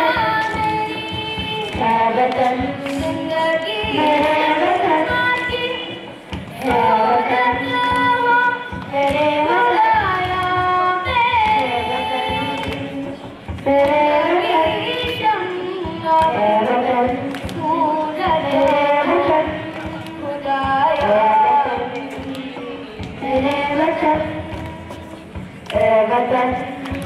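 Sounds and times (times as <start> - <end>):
children singing into microphones: 0.0 - 27.0.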